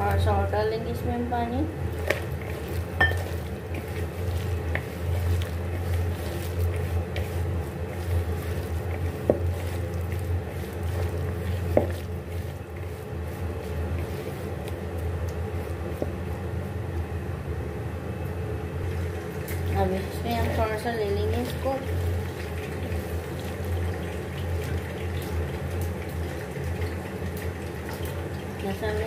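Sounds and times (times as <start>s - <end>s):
steady low hum: 0.0s - 29.0s
hand squishing wet food: 1.7s - 16.7s, 18.8s - 28.6s.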